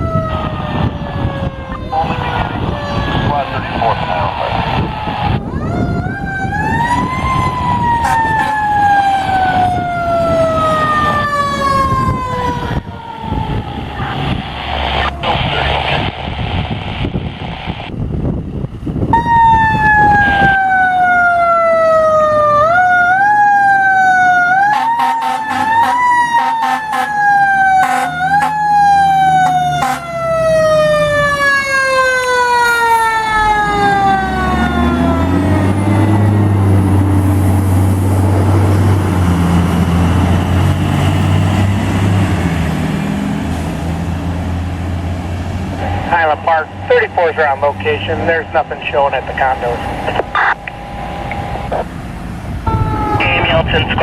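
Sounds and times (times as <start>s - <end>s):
fire truck siren: 0.0s - 18.0s, 19.1s - 54.0s.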